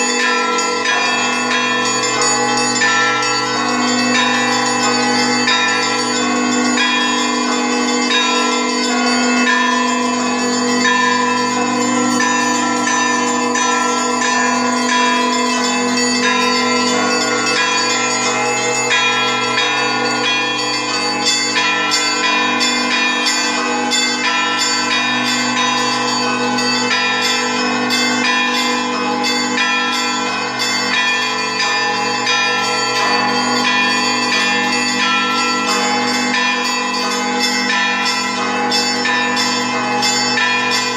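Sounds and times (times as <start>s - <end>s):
large bells low tones: 0.0s - 40.9s
small bells striking: 0.0s - 40.9s.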